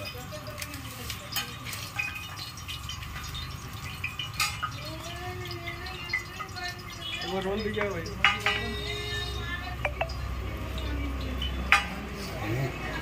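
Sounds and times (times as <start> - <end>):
food frying in oil: 0.0 - 13.0.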